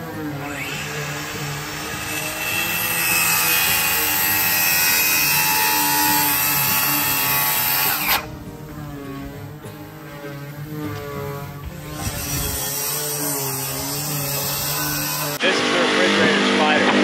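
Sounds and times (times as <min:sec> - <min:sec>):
circular saw cutting plywood: 0:00.0 - 0:17.0.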